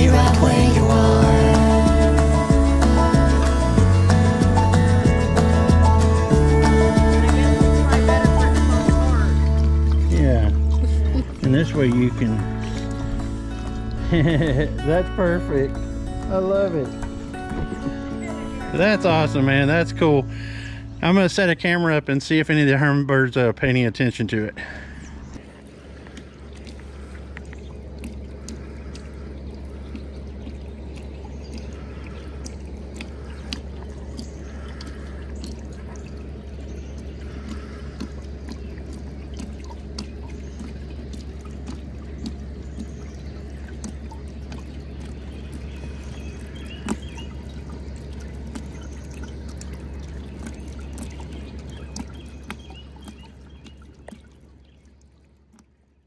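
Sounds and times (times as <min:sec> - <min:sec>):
fountain water splashing: 0:00.0 - 0:23.4, 0:24.2 - 0:56.0
water drips: 0:00.0 - 0:23.5, 0:24.6 - 0:56.0
pump humming: 0:00.0 - 0:56.0.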